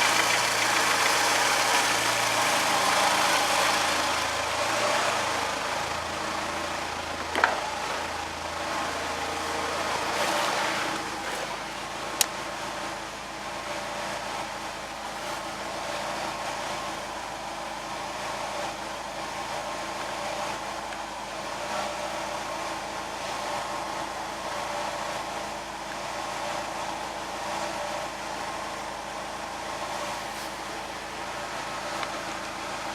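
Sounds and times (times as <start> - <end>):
car engine running: 0.0 - 32.9
engine knock: 0.0 - 32.9.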